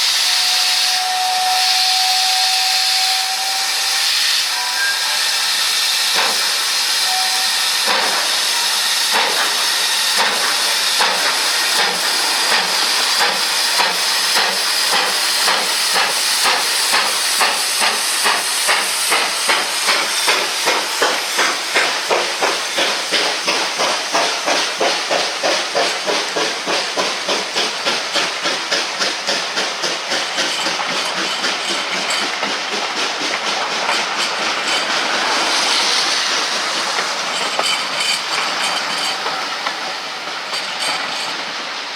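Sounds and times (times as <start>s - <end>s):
steam hissing: 0.0s - 41.9s.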